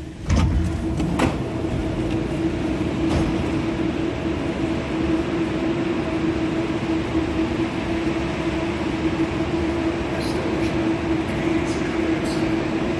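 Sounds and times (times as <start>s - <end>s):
electrical hum: 0.0s - 12.9s.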